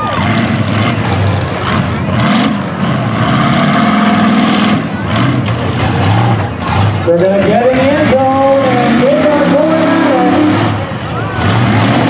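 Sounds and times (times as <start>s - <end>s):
truck engines running loudly: 0.0s - 12.0s.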